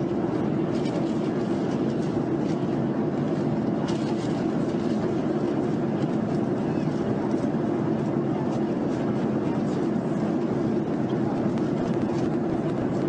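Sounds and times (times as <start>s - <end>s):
jet engine and airflow roar: 0.0s - 13.0s.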